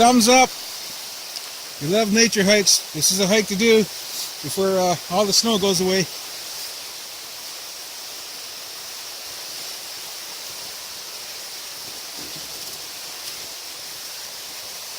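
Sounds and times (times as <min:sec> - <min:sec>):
waterfall and river rapids rushing: 0:00.0 - 0:14.9.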